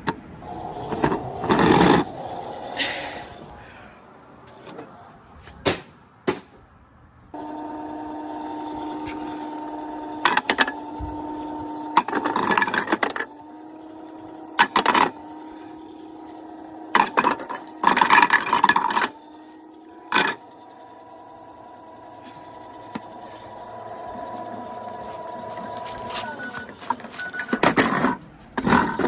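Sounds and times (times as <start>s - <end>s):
toy washing machine motor whirring: 0.0s - 3.7s, 7.3s - 29.0s.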